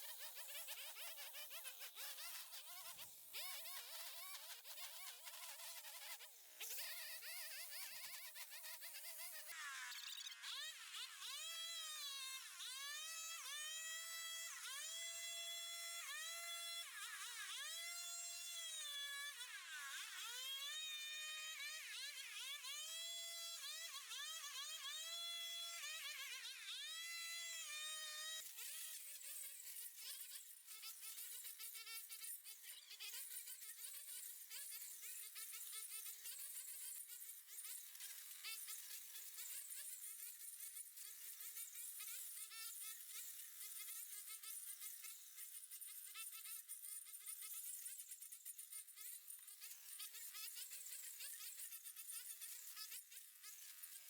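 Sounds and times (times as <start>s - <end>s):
small engine buzzing: 0.0s - 54.0s.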